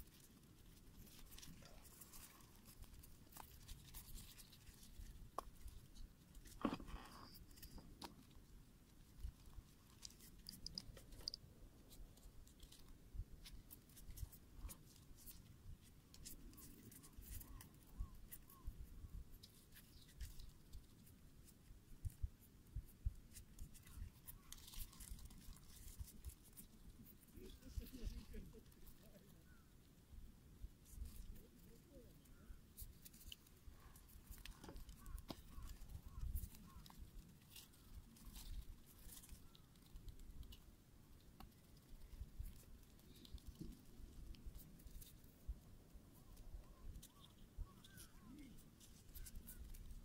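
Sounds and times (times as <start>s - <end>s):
faint clicks and crackles: 0.0s - 50.0s.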